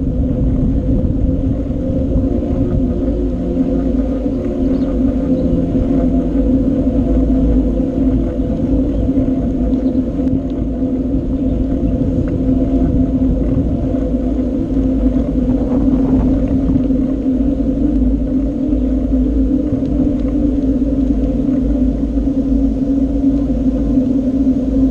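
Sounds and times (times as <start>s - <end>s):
steady hum of bicycle ride: 0.0s - 24.9s
wind rumbling on microphone: 0.0s - 24.9s.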